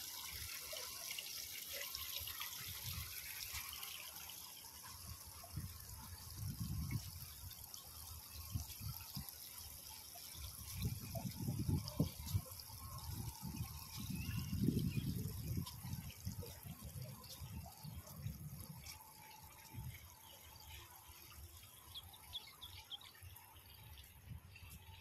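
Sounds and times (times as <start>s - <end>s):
fountain water trickling and splashing: 0.0s - 25.0s.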